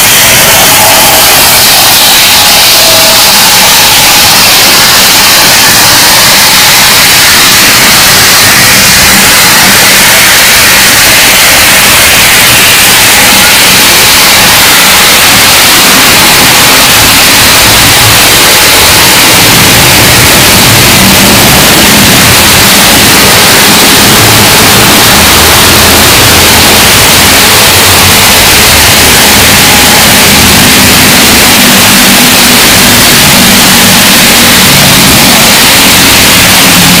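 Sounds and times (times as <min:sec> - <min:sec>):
clipping static noise: 0:05.7 - 0:37.0.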